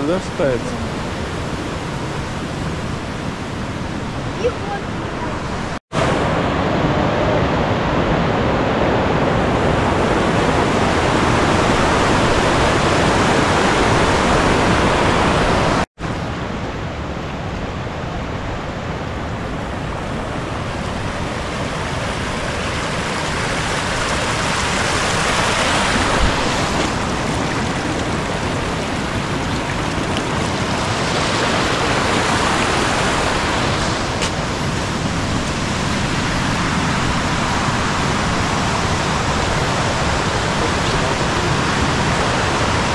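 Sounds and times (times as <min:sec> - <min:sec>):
fast stream rushing water: 0:00.0 - 0:42.9.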